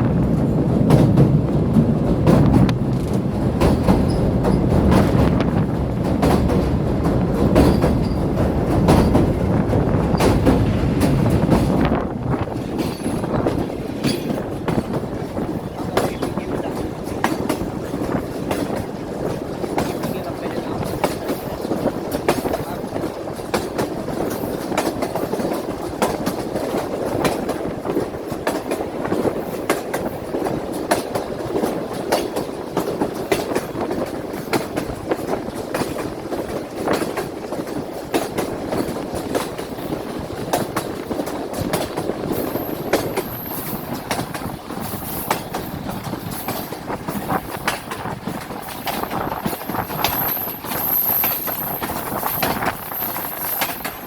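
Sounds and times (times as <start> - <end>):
train carriages rumbling: 0.0 - 54.0
wheels clattering over rail joints: 0.0 - 54.0.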